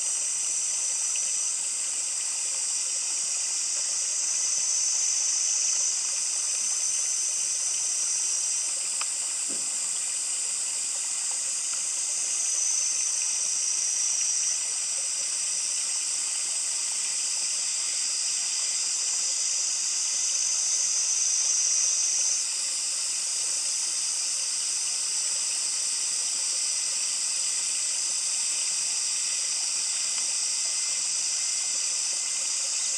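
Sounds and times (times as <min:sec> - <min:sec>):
cicadas hissing: 0:00.0 - 0:32.9
shrill cicada tone: 0:00.0 - 0:32.9.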